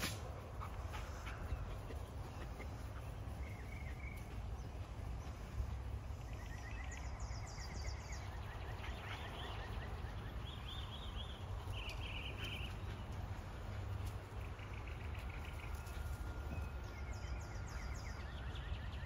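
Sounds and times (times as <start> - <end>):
birds twittering: 0.0 - 19.0.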